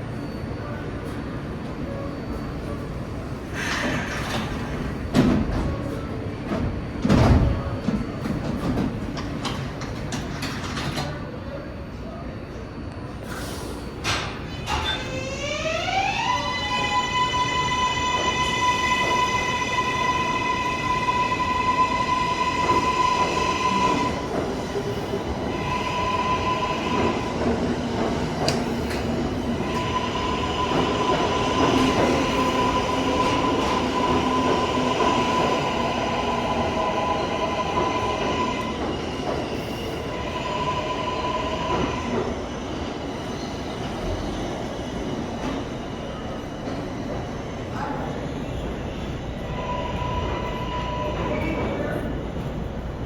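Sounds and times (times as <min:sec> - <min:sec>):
train wheels rumbling on rails: 0:03.0 - 0:11.2, 0:17.3 - 0:53.0.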